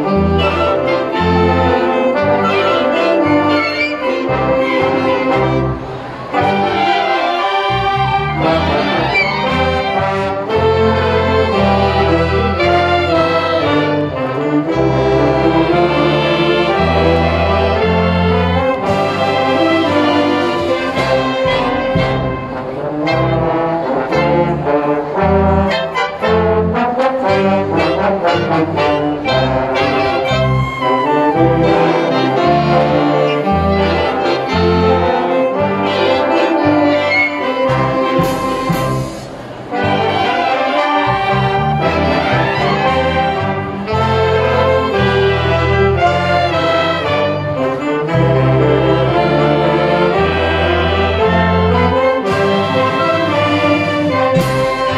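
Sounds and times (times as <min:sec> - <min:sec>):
wind band playing: 0:00.0 - 0:54.9.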